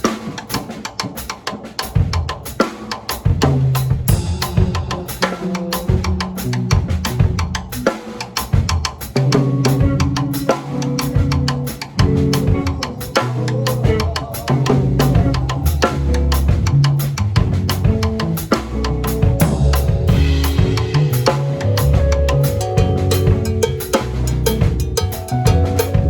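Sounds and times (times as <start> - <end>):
drum kit beat: 0.0 - 26.0
held bass and keyboard notes: 4.1 - 26.0.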